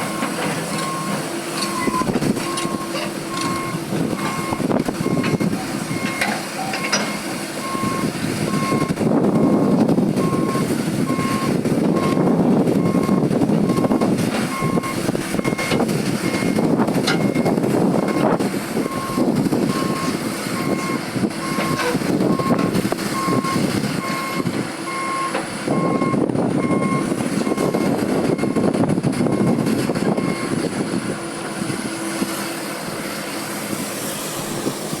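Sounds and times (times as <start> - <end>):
diesel engine rumble: 0.0 - 35.0
reversing alarm beeps: 0.1 - 12.2, 12.8 - 28.7, 29.3 - 30.6.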